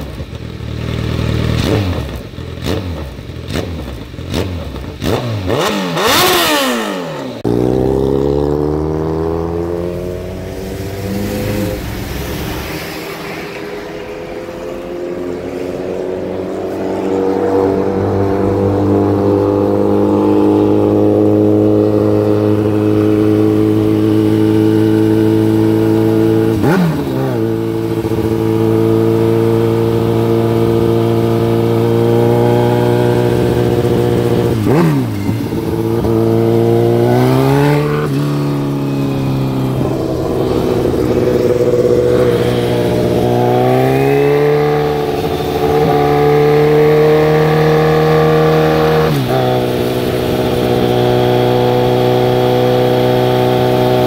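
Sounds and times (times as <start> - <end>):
motorcycle exhaust cruising: 0.0 - 54.0.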